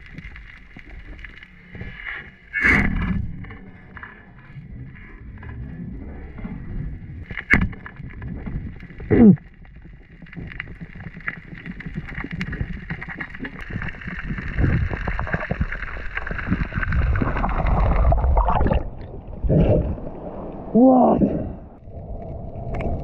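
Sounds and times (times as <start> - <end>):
muffled underwater rushing water: 0.0 - 23.0.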